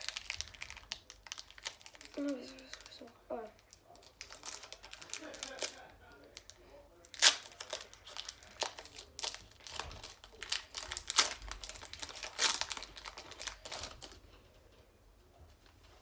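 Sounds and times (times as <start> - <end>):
foil wrapper crinkling: 0.0 - 14.2.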